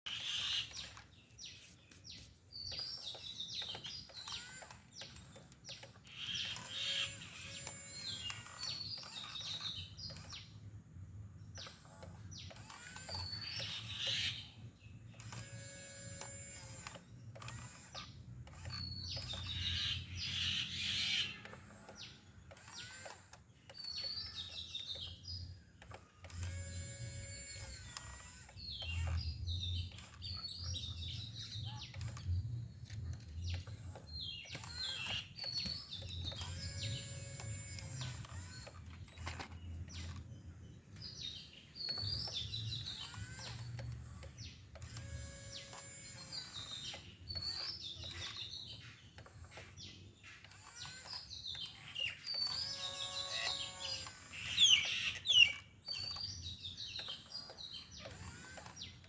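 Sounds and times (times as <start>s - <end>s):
birds chirping: 0.1s - 59.0s
electric motors whining: 0.1s - 59.0s.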